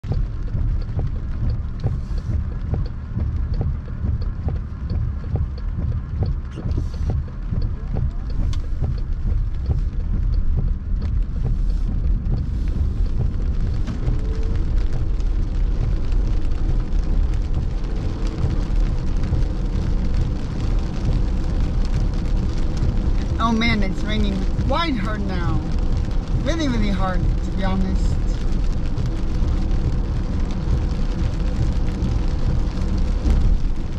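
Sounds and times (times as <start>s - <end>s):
car and road rumble: 0.0s - 33.9s
heavy rain on a car: 0.0s - 33.9s.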